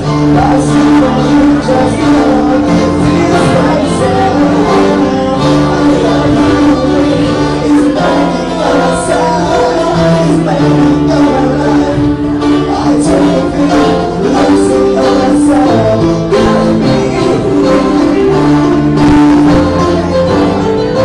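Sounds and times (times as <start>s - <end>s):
band song with singing: 0.0s - 21.0s.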